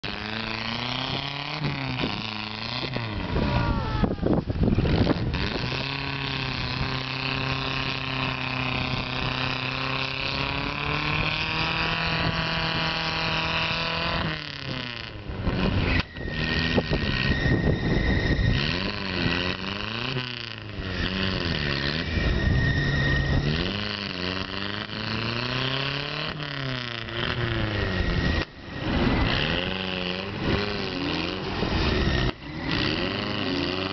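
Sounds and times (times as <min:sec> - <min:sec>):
truck engine revving: 0:00.0 - 0:33.9.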